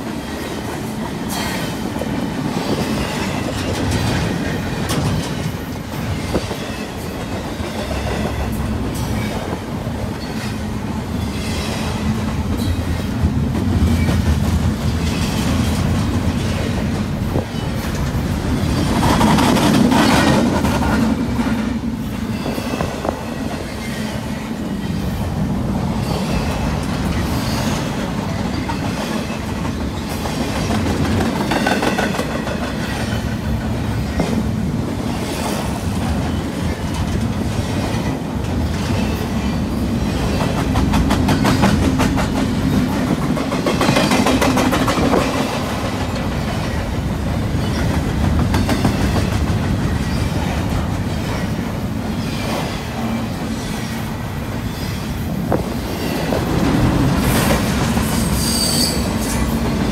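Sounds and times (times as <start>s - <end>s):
clickety-clack over rail joints: 0.0s - 59.9s
freight train wheels rumbling: 0.0s - 59.9s.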